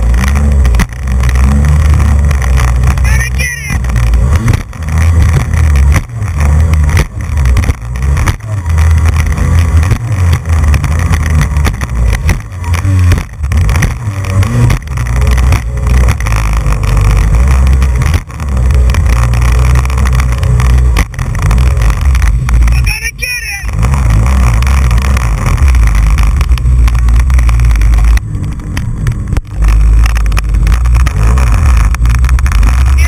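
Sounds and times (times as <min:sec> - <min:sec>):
wind rumble on microphone: 0:00.0 - 0:23.0, 0:23.6 - 0:33.0
jet ski engine drone: 0:00.0 - 0:33.0
water noise: 0:00.0 - 0:33.0.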